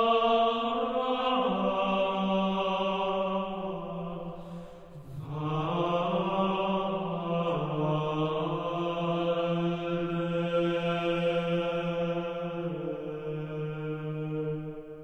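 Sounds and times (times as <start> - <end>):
chant sung in unison: 0.0 - 15.0.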